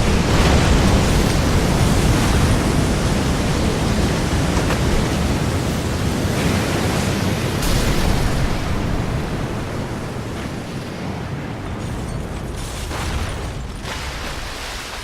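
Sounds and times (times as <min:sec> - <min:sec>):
rush of crashing water: 0:00.0 - 0:15.0.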